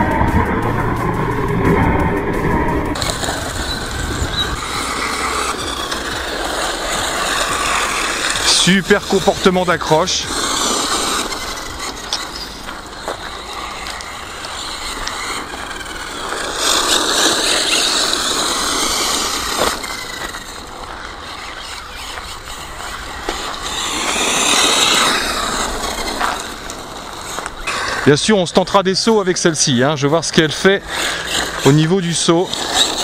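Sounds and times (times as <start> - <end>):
electric rc car motor whining: 0.0 - 28.4, 29.0 - 33.0.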